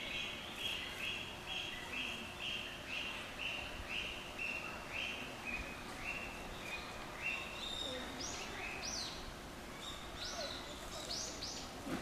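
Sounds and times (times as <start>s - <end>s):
birds chirping: 0.0s - 11.8s
outdoor hiss: 0.0s - 12.0s.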